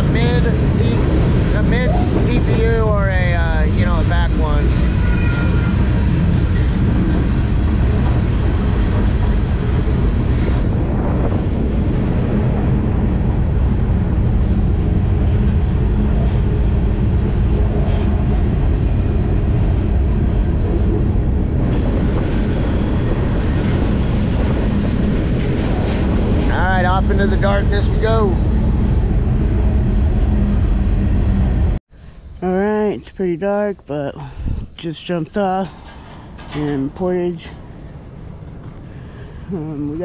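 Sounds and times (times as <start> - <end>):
train wheels rumbling on rail: 0.0 - 31.8, 34.6 - 40.0.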